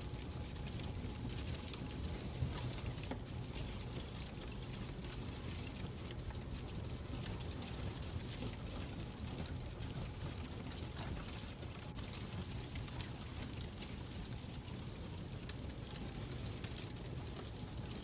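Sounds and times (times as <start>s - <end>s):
fireplace crackling: 0.2s - 18.0s.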